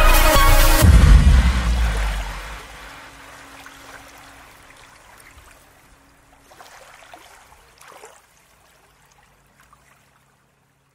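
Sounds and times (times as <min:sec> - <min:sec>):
stream trickling and gurgling: 0:00.8 - 0:10.9.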